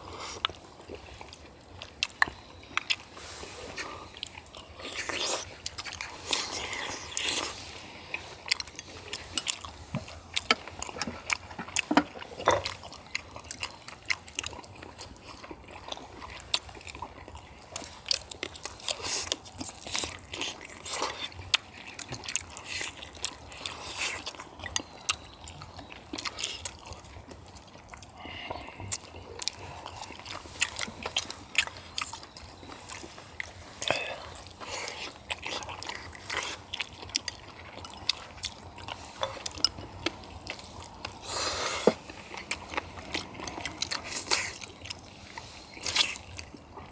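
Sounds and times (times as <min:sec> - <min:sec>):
people chewing and biting: 0:00.0 - 0:46.9.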